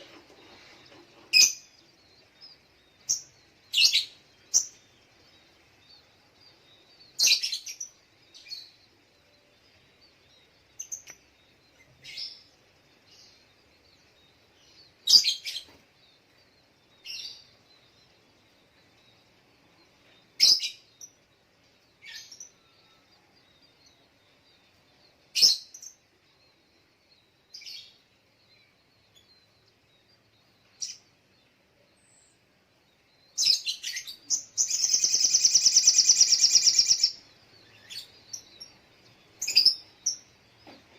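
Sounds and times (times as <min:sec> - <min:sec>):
bird trilling song: 0:00.0 - 0:40.9.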